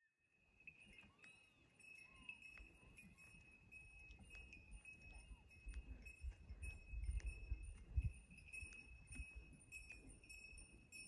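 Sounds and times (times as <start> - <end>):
small metal bell jingling: 0.5 - 11.0.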